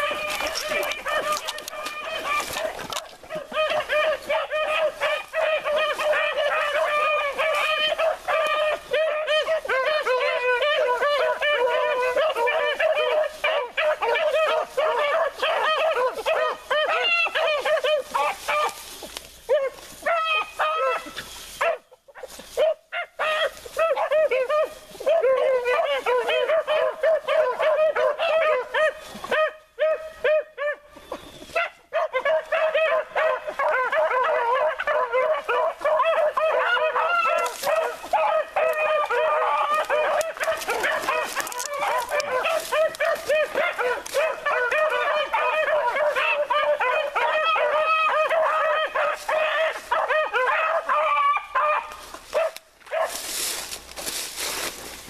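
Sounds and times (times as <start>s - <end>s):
dogs baying: 0.0s - 54.9s.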